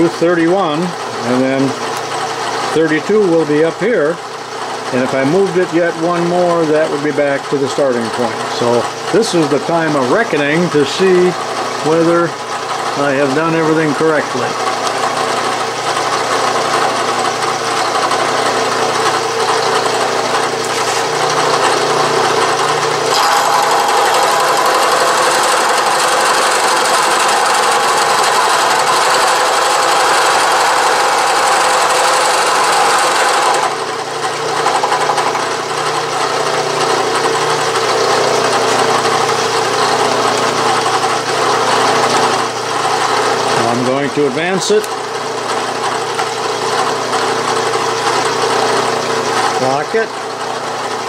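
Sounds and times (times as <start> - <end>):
milling machine cutting metal: 0.0 - 51.0.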